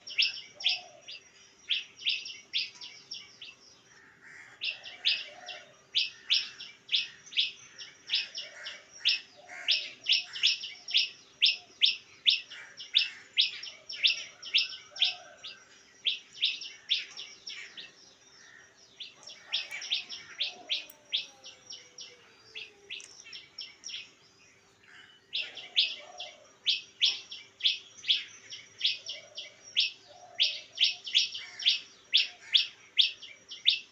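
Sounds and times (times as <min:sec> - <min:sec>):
bird chirping: 0:00.0 - 0:33.9.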